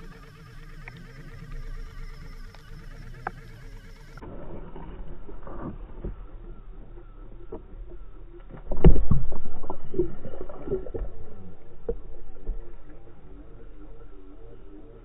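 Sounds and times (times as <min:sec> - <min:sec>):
underwater water movement: 0:00.0 - 0:15.0.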